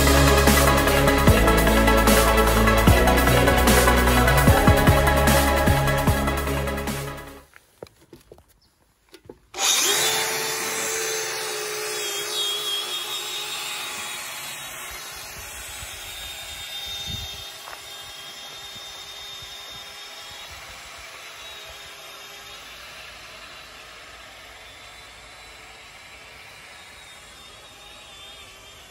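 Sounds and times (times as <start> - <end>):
angle grinder motor whining: 0.0 - 7.3, 9.5 - 28.9.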